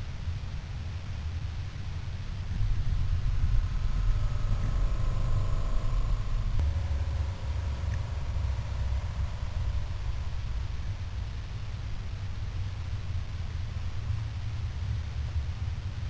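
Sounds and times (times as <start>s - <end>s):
underwater motor whine: 1.2s - 16.0s
low water rumble: 1.4s - 15.6s.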